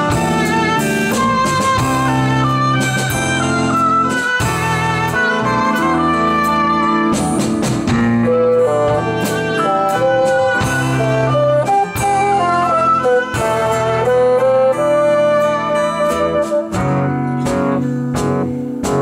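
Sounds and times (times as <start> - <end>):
acoustic guitar: 0.0 - 19.0
electric bass guitar: 0.0 - 19.0
keyboard: 0.0 - 19.0
melodic lead of held notes: 0.0 - 19.0.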